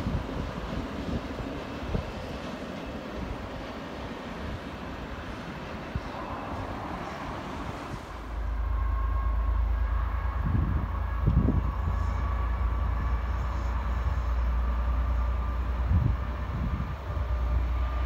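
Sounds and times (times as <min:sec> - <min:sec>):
distant train rumbling: 0:00.0 - 0:18.0.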